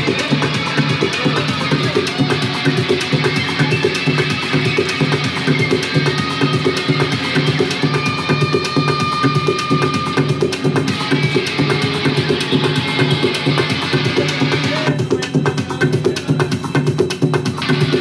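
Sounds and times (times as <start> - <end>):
electronic noise music: 0.0 - 18.0.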